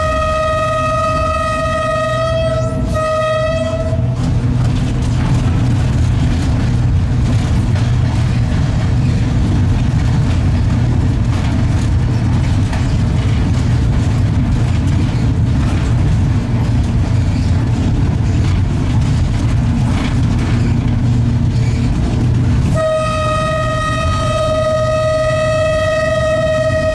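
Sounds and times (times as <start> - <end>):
electric locomotive humming: 0.0 - 26.9
wheel-on-rail noise: 0.0 - 26.9.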